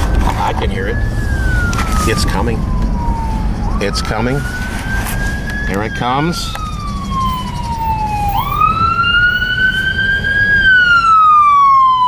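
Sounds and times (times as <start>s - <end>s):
emergency siren wailing: 0.0s - 12.0s
low traffic rumble: 0.0s - 12.0s.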